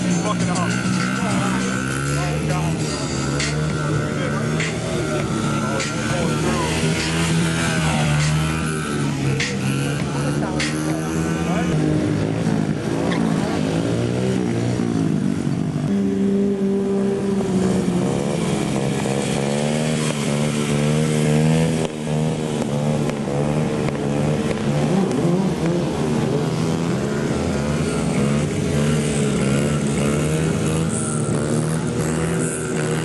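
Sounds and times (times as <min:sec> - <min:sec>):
mini bike engines revving: 0:00.0 - 0:33.0.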